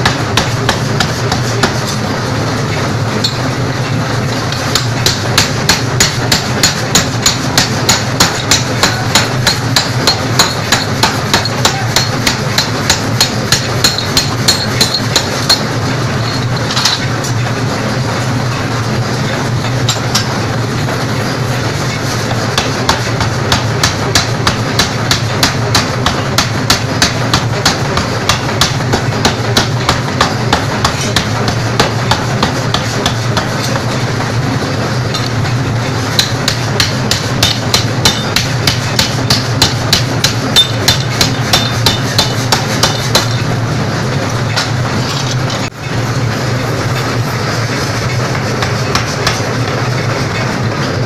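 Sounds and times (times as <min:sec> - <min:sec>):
low machine hum: 0:00.0 - 0:51.0
power hammer striking hot steel: 0:00.0 - 0:51.0.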